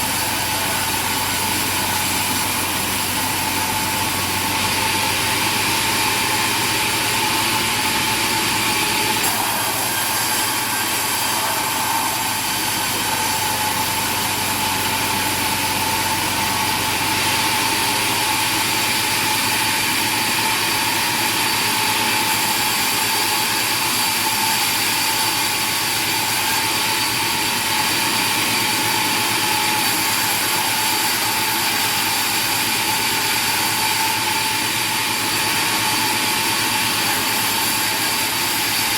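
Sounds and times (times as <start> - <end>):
machine engine running with whine: 0.0 - 38.9.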